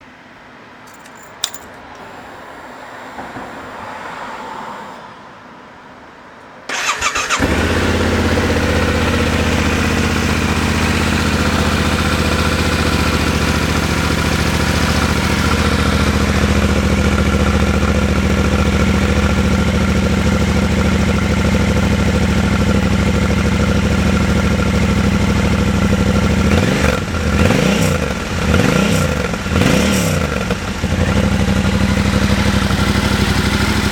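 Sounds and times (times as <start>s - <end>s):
motorcycle engine idling and revving: 6.7s - 33.9s.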